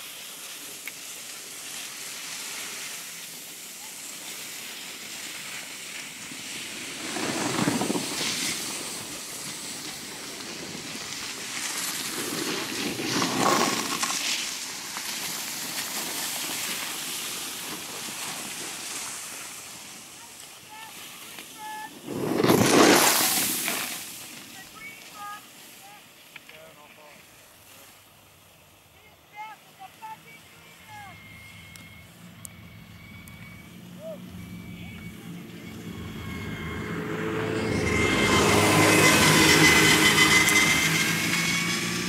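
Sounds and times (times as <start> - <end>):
skis scraping over snow: 0.0 - 32.1, 33.4 - 42.0.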